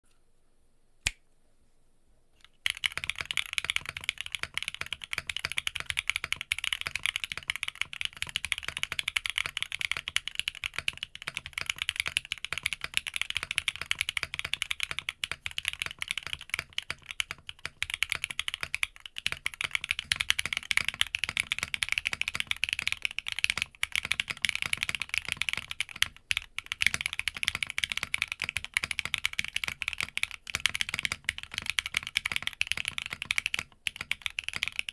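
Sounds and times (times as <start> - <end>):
fast mechanical keyboard typing: 2.6 - 34.9.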